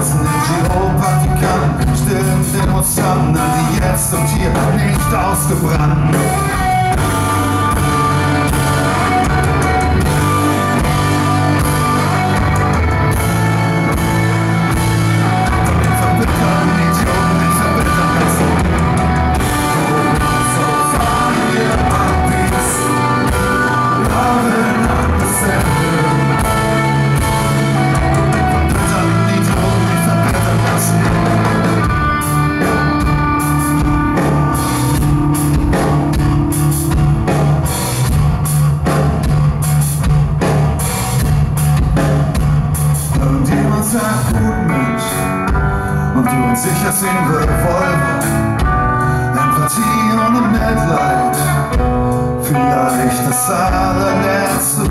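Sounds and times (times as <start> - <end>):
bass guitar: 0.0 - 54.9
drum kit: 0.0 - 54.9
electric guitars: 0.0 - 54.9.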